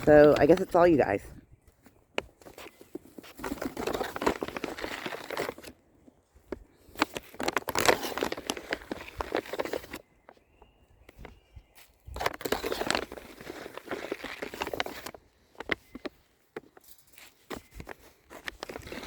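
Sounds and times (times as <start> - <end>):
bag crinkling and rustling: 0.0 - 10.4, 11.1 - 19.0.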